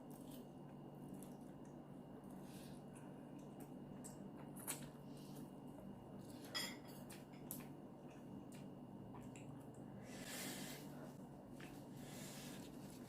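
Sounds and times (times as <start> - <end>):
soft wet eating sounds: 0.0 - 13.0.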